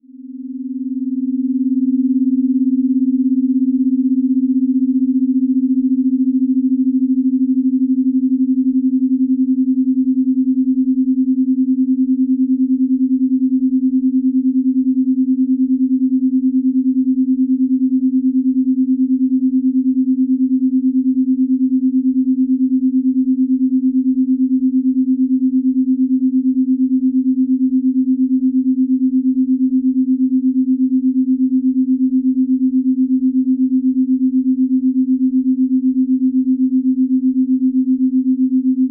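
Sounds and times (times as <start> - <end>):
steady low pure tone: 0.0 - 38.9.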